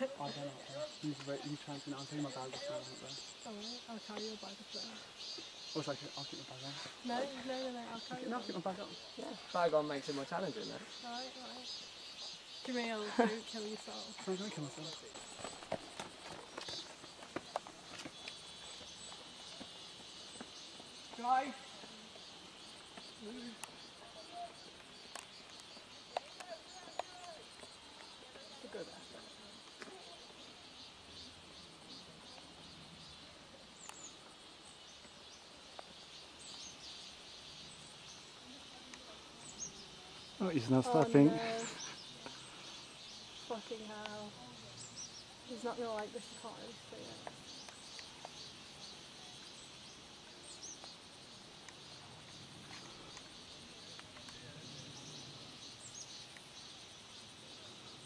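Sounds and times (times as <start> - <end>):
insects chorus: 0.0 - 58.0.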